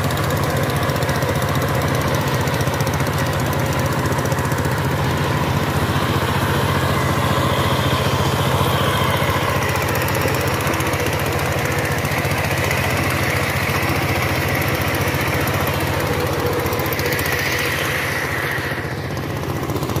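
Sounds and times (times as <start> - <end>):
diesel tiller engine chugging: 0.0 - 20.0.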